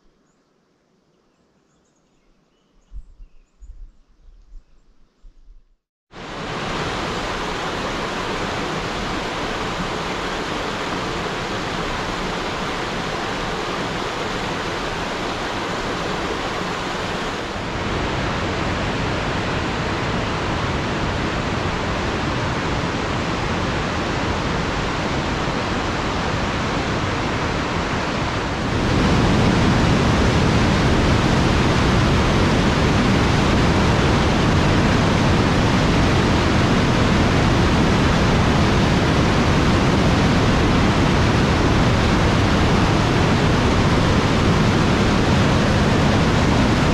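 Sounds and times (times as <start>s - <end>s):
creek water rushing through gorge: 6.2s - 46.9s.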